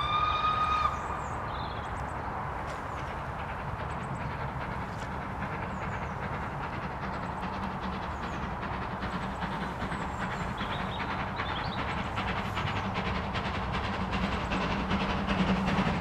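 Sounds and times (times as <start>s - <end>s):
steam locomotive rumbling: 0.0s - 16.0s.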